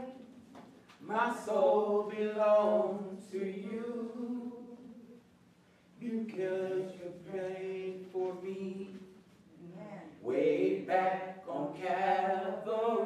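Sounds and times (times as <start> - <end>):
boy and man singing: 0.0 - 0.4, 1.0 - 5.1, 6.0 - 9.2, 10.1 - 13.0.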